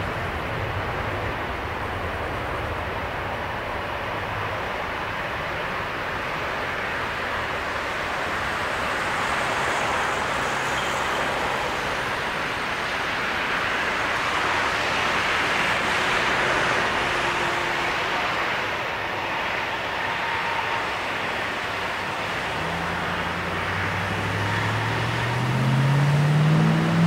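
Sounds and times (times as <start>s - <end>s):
jet engine rush at takeoff: 0.0s - 27.0s.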